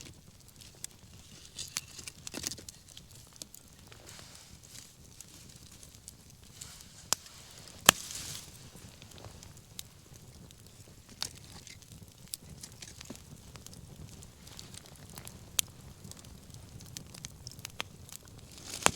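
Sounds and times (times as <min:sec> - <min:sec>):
bonfire crackling and popping: 0:00.0 - 0:18.9
low steady fire hiss: 0:00.0 - 0:18.9.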